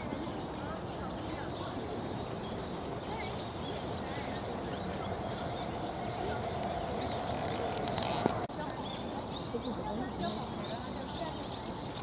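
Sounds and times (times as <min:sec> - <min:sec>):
low background hubbub: 0:00.0 - 0:12.0.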